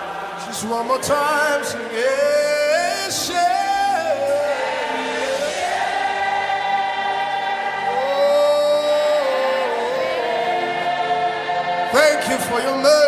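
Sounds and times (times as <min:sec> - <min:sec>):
gospel choir and congregation singing: 0:00.0 - 0:13.0.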